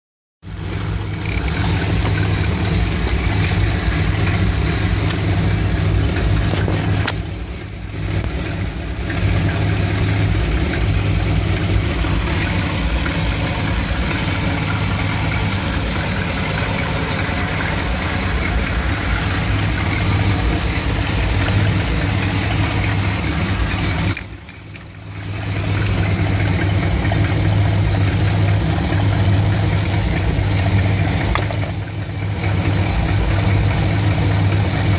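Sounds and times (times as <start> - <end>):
engine idling roughly: 0.4 - 34.9.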